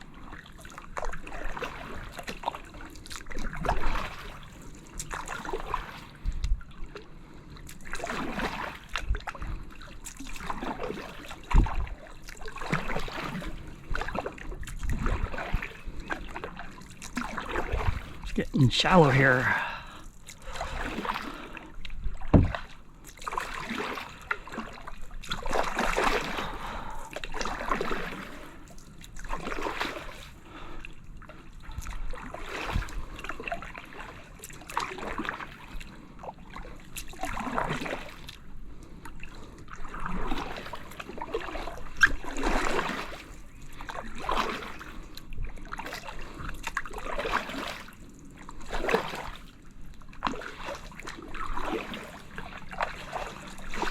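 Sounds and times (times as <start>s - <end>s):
paddle splashing and dripping: 0.0s - 53.9s.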